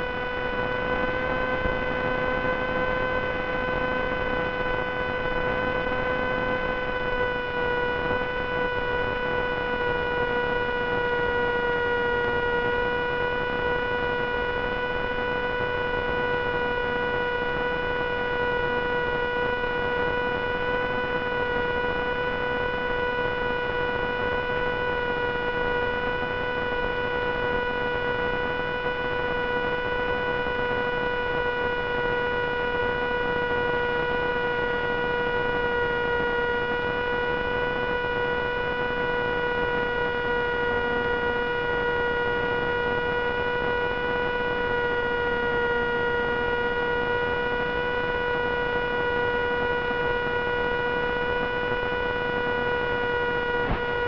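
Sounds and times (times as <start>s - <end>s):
electrical buzzing hum: 0.0s - 54.0s.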